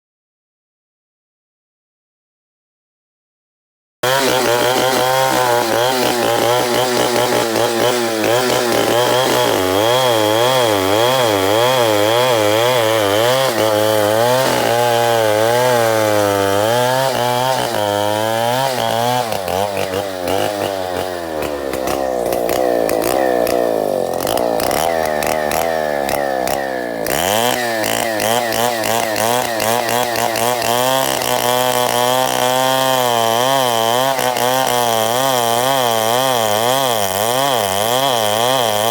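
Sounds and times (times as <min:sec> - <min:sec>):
chainsaw cutting wood: 0:04.0 - 0:38.9.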